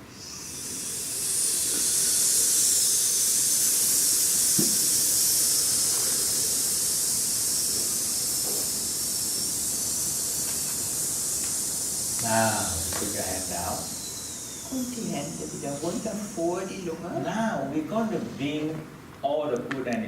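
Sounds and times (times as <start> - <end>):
hissing exhale through teeth: 0.0 - 16.8.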